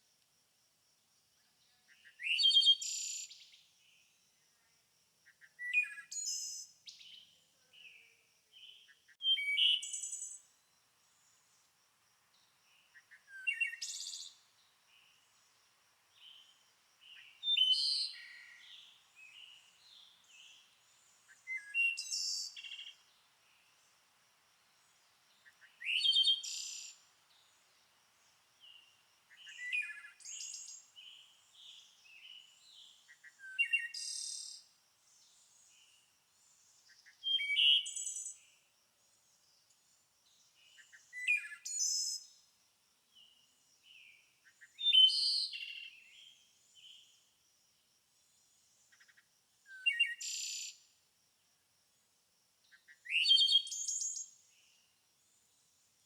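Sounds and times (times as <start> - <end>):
songbird singing: 1.3 - 42.5, 43.1 - 47.4, 48.2 - 51.0, 52.6 - 56.0.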